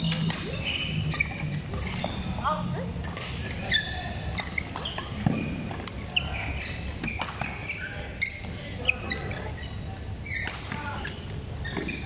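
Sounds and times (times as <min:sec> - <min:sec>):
court shoes squeaking: 0:00.0 - 0:12.0.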